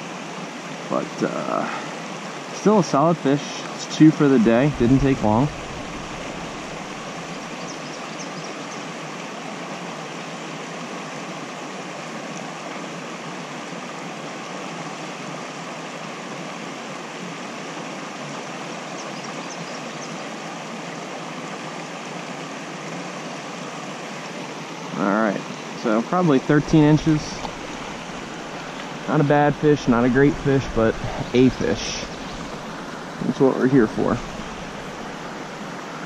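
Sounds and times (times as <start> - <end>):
creek water flowing: 0.0 - 36.0.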